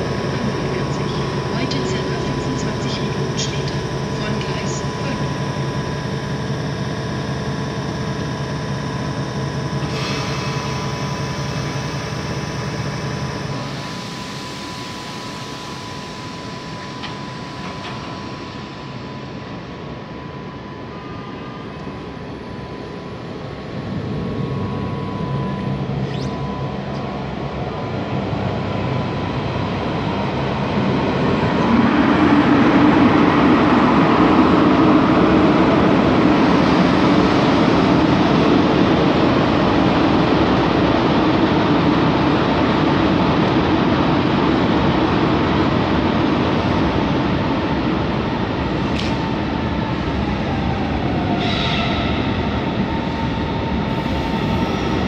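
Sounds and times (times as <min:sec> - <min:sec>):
thin steady whine: 0:00.0 - 0:55.0.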